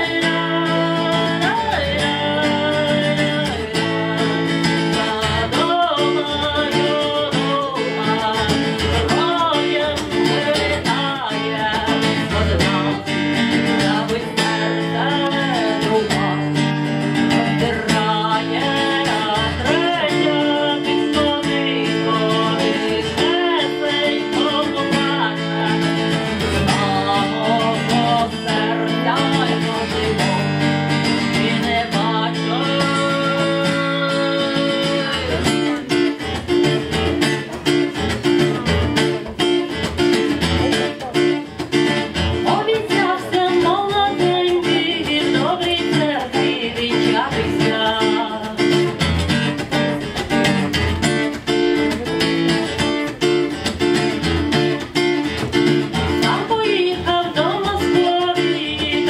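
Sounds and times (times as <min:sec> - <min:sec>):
acoustic guitar strumming: 0:00.0 - 0:59.0
woman singing: 0:00.0 - 0:59.0.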